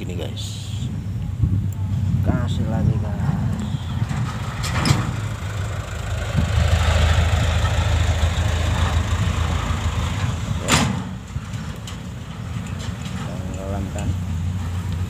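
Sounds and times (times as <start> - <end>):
engine running: 2.9 - 15.0.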